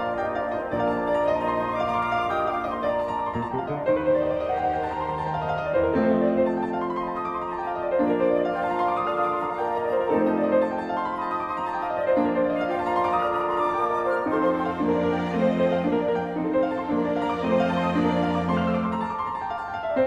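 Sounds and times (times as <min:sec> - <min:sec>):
calm piano music: 0:00.0 - 0:20.0.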